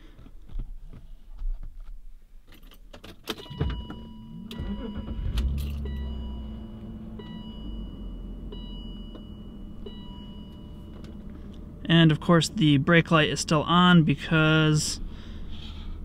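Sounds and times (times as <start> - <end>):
car engine cranking and idling: 2.5 - 16.0.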